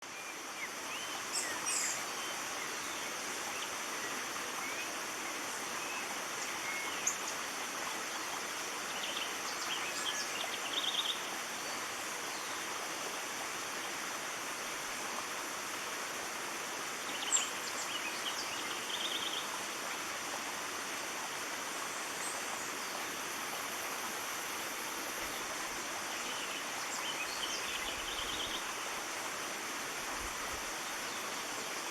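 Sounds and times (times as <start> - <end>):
stream rushing: 0.4 - 31.9.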